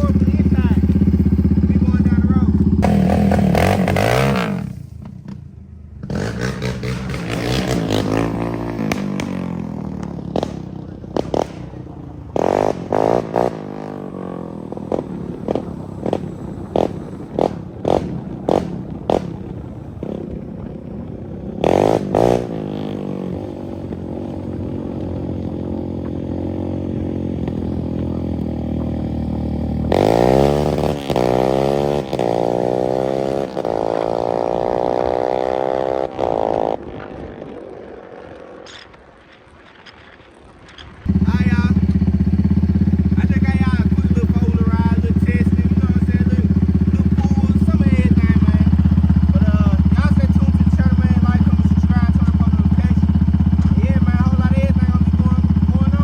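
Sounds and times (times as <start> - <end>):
atv engine revving: 0.0 - 39.2, 40.7 - 56.0
engine throttle blips: 0.0 - 56.0.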